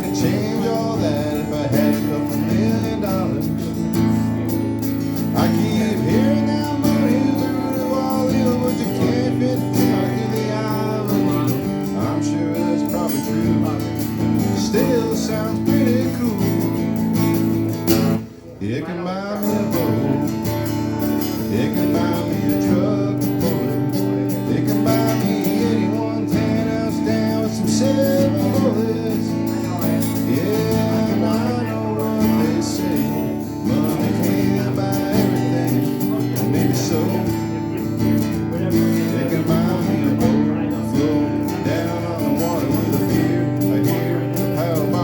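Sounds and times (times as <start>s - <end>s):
acoustic guitar strumming: 0.0s - 45.0s
country music band: 0.0s - 45.0s.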